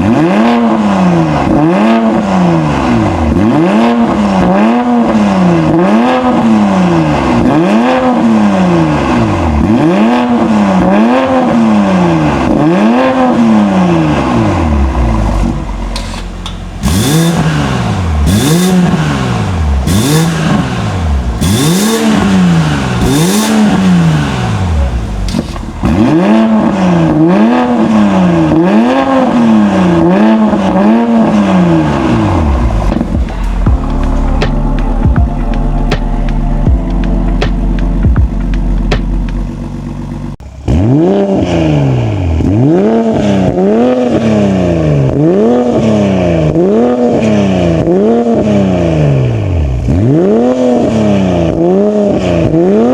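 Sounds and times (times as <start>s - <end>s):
car engine revving: 0.0s - 52.9s
exhaust pops: 9.0s - 52.9s.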